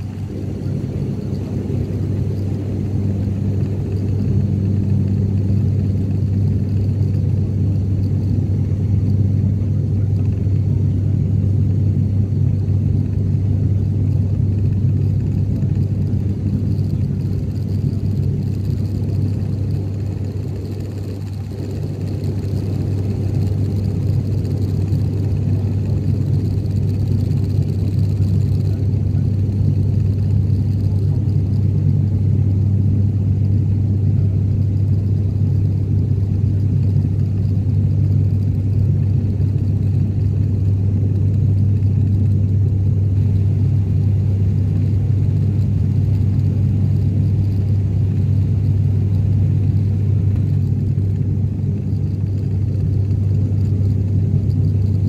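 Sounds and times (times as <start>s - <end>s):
airliner cabin engine drone: 0.0s - 55.0s.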